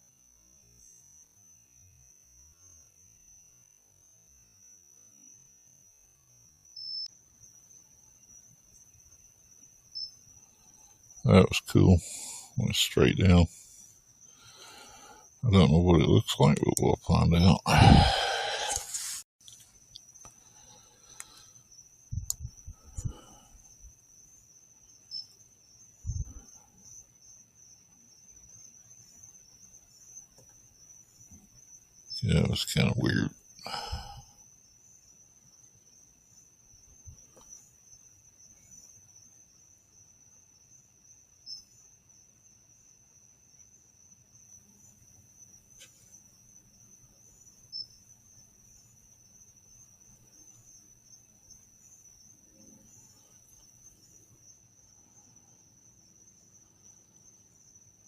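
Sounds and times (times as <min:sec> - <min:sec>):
crickets chirping: 0:00.0 - 0:58.0
insects trilling: 0:00.0 - 0:58.0.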